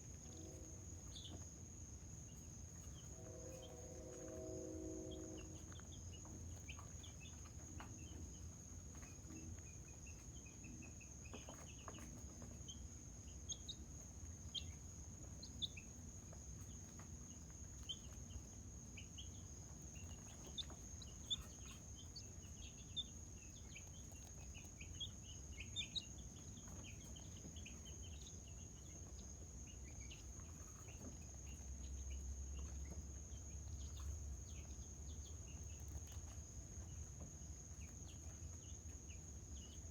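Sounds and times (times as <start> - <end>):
birds chirping: 2.3 - 39.9.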